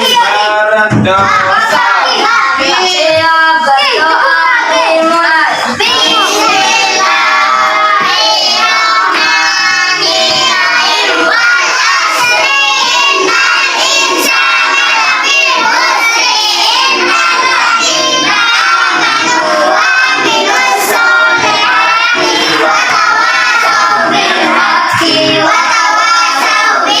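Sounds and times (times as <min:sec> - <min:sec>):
children chanting a prayer: 0:00.0 - 0:27.0.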